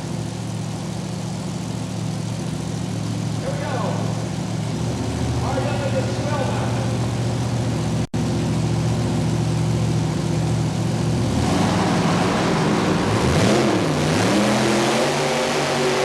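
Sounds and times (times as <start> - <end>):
tractor engines idling and revving: 0.0 - 16.0.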